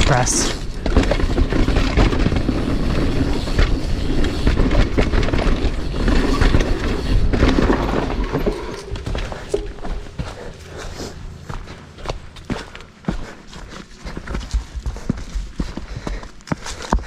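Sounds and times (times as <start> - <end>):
bike rattling and knocking: 0.0 - 17.0
tyres rumbling on dirt trail: 0.0 - 17.0.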